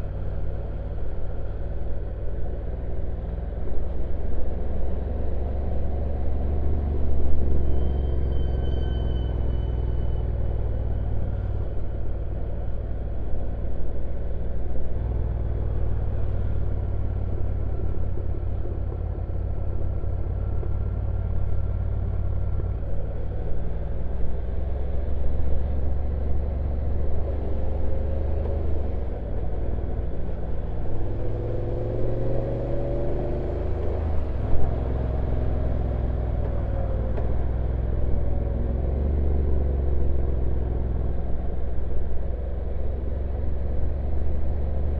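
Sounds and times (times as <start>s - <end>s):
heavy low rumble: 0.0s - 44.9s.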